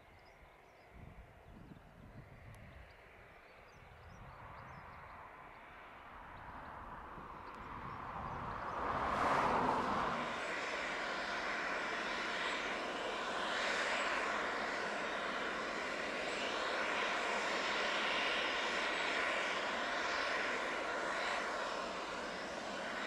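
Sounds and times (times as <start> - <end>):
aircraft engine rushing: 0.1 - 23.0.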